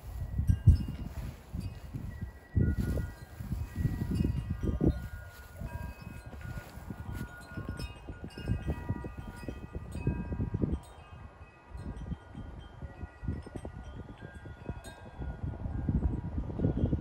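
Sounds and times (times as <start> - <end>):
wind chimes ringing: 0.0 - 17.0
wind rumble on microphone: 0.0 - 17.0.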